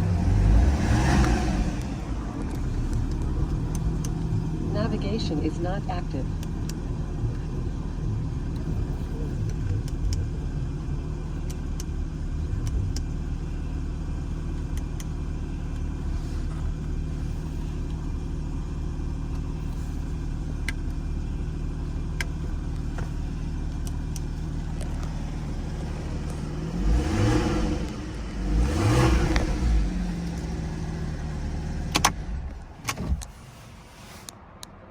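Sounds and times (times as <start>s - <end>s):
engine revving: 0.0s - 33.3s
car engine idling: 0.0s - 34.9s.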